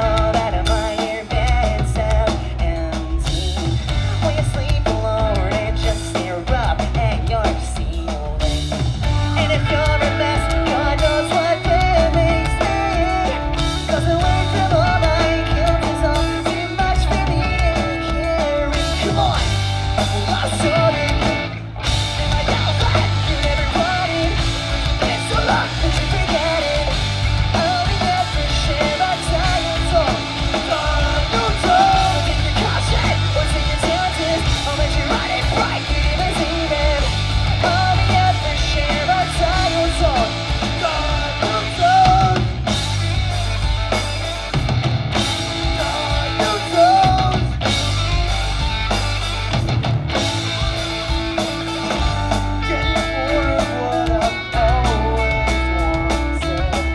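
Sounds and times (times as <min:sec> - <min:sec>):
man singing: 0:00.0 - 0:44.6, 0:45.2 - 0:48.3, 0:51.9 - 0:56.9
bass guitar: 0:00.0 - 0:56.9
drum kit: 0:00.0 - 0:56.9
electric guitars: 0:00.0 - 0:56.9.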